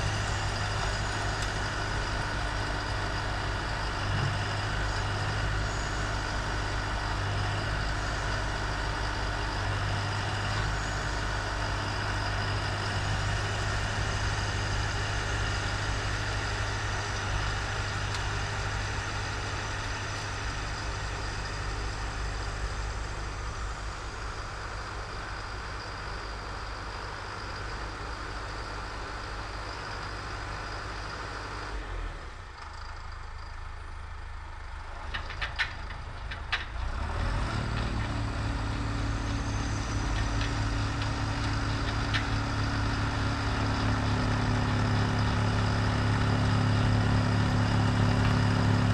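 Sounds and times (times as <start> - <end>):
snowblower engine running: 0.0 - 48.9.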